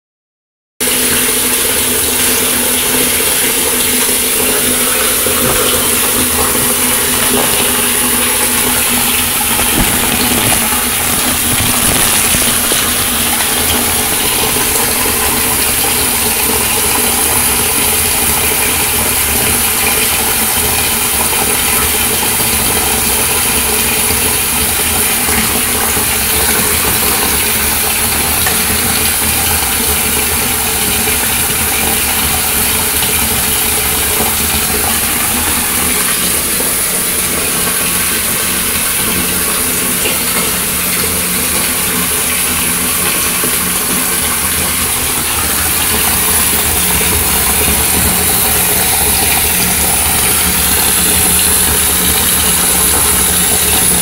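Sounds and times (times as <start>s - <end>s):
bathtub tap running: 0.8s - 54.0s.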